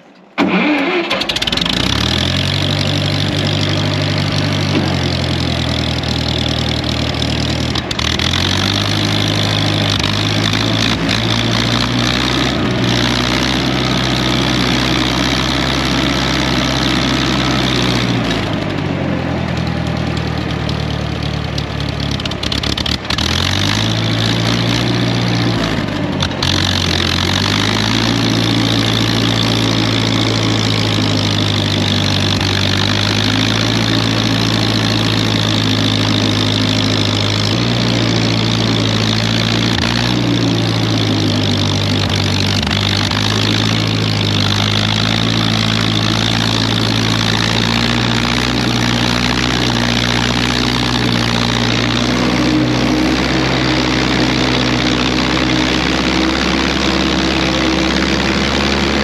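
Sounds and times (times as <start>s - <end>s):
trencher engine running: 0.0s - 59.0s.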